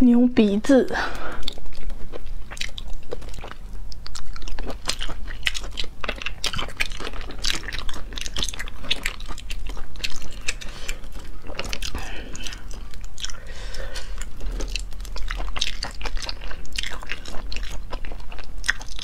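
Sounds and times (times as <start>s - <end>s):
chewing and wet mouth clicks: 1.4s - 19.0s.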